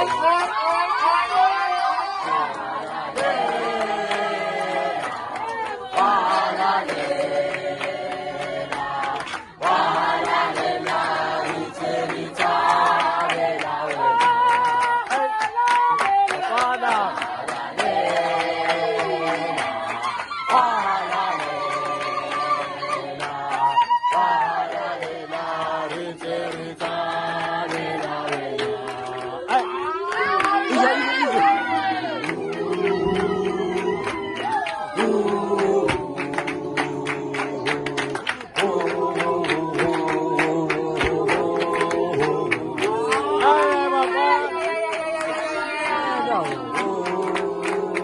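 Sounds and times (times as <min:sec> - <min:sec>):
group singing a cappella: 0:00.0 - 0:48.0.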